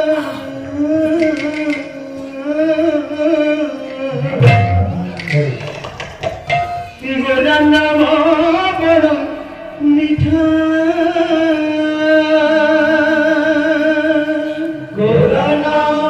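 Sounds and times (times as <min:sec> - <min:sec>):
person singing devotional chant: 0:00.0 - 0:06.0, 0:06.7 - 0:16.0.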